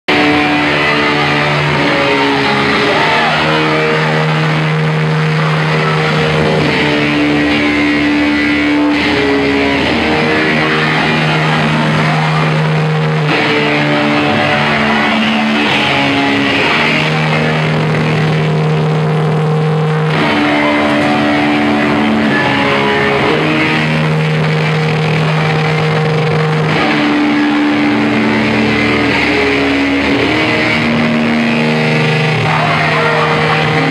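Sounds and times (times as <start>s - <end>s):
electric guitar and bass chords: 0.0s - 33.9s.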